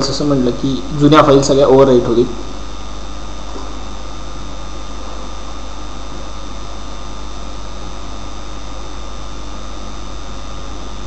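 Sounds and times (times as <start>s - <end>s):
electrical mains hum and hiss: 0.0s - 11.0s
faint high whines: 0.0s - 11.0s.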